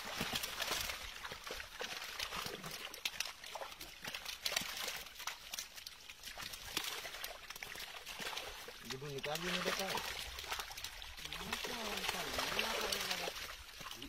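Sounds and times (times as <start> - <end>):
fish flapping and splashing: 0.0 - 14.0
water trickling and sloshing: 0.0 - 14.0.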